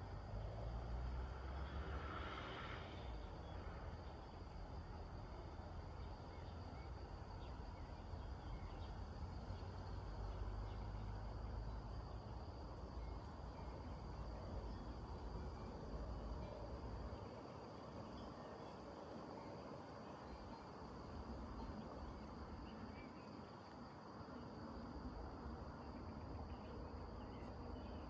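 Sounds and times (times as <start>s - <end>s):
insects chirring: 0.2s - 28.0s.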